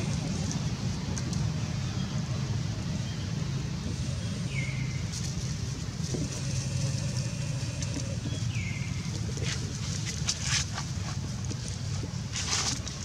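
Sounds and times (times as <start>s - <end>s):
engine rumble: 0.0s - 13.0s.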